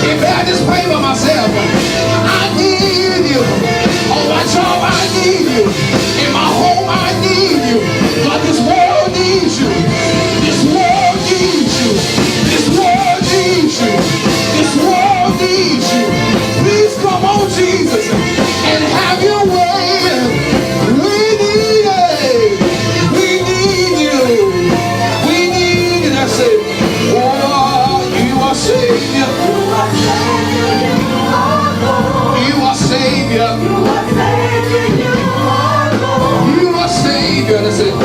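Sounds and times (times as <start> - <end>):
gospel singing with instruments: 0.0 - 38.0.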